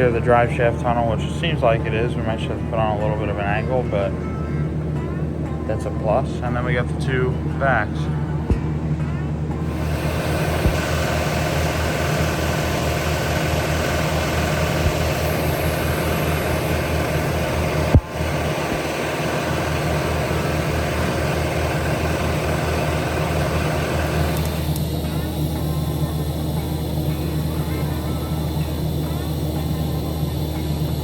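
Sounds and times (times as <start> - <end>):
machine hum with low pulsing: 0.0 - 31.0.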